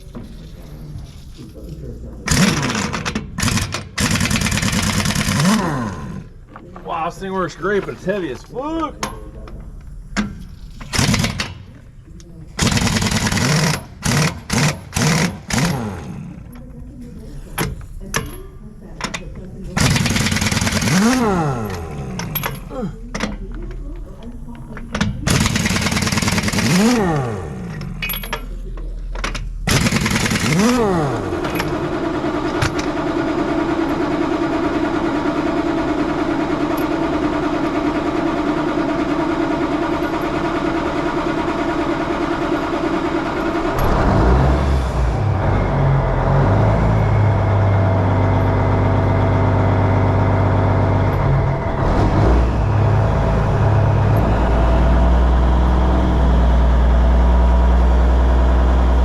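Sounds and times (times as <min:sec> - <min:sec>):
heavy engine idling: 0:00.0 - 0:59.0
machinery humming: 0:00.0 - 0:59.0.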